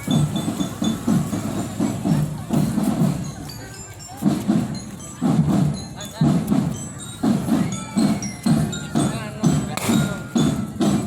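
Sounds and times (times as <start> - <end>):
marching drums beating: 0.0 - 3.5, 4.2 - 11.0.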